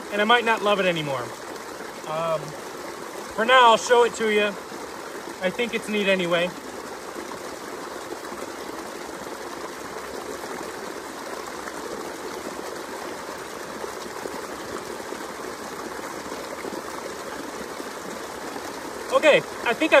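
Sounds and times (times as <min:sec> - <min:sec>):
creek running over rocks: 0:00.0 - 0:20.0.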